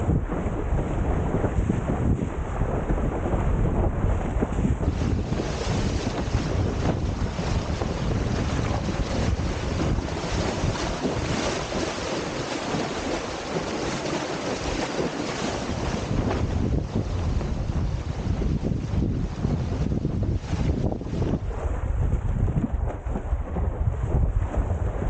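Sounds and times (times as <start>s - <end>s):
rushing splashing water: 0.0s - 25.0s
wind buffeting microphone: 0.0s - 25.0s.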